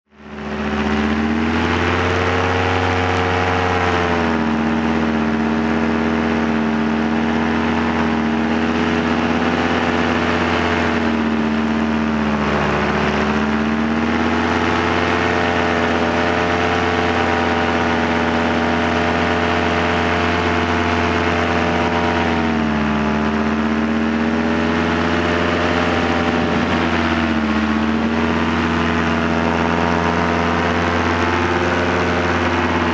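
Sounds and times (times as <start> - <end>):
two-stroke engine and propeller: 0.0 - 32.9.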